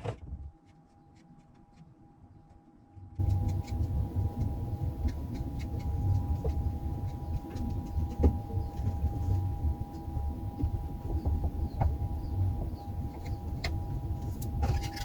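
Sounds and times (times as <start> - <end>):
low machine hum: 0.0 - 15.0
faint whine: 0.2 - 15.0.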